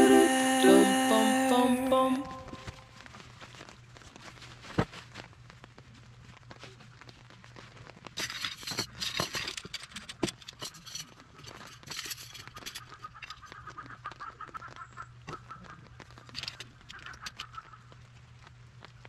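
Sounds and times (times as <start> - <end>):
rustling: 2.2 - 19.0.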